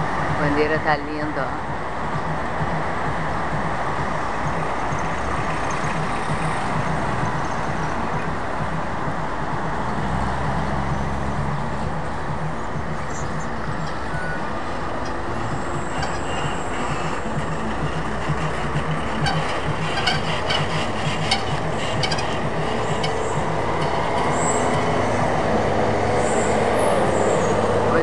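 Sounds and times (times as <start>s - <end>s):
heavy vehicle engine rumbling: 0.0s - 28.0s
traffic noise: 0.0s - 28.0s.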